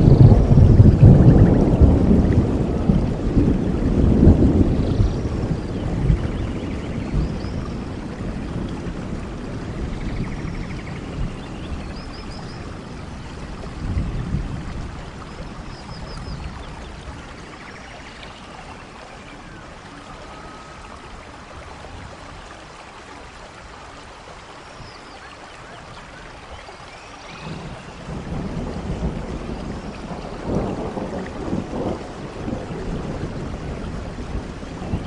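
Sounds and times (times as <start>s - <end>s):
low thunder rumble: 0.0s - 22.5s, 27.3s - 35.0s
soft rain falling: 0.0s - 35.0s.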